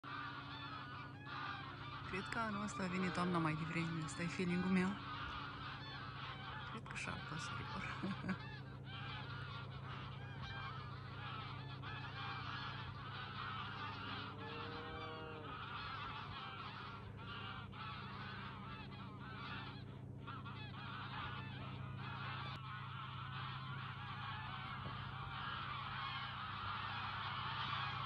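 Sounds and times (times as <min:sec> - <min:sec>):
flock of birds calling: 0:00.0 - 0:28.0
steady low hum: 0:00.0 - 0:28.0.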